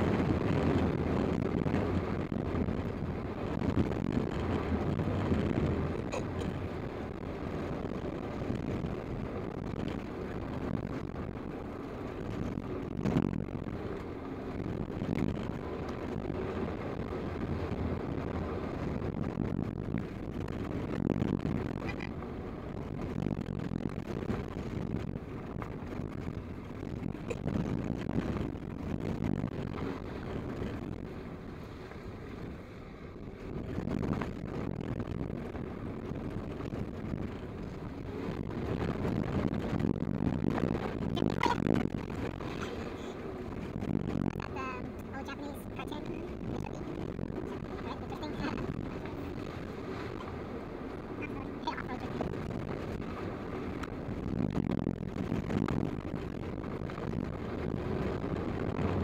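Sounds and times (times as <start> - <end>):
car engine: 0.0 - 59.0.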